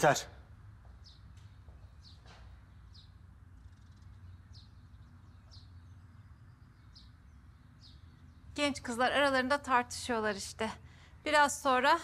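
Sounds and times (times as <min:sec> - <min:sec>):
faint bird chirping: 0:00.4 - 0:12.0.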